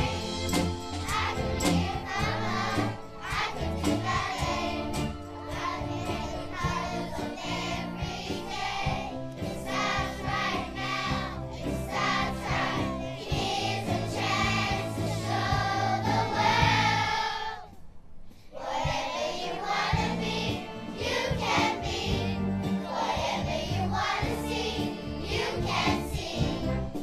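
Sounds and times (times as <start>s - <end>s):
instrumental accompaniment: 0.0s - 17.5s, 18.9s - 27.0s
children singing together: 0.0s - 17.8s, 18.5s - 27.0s.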